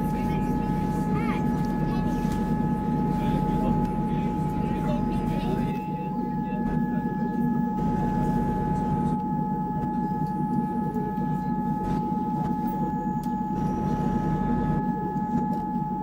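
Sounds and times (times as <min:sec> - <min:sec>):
steady whining tones: 0:00.0 - 0:16.0.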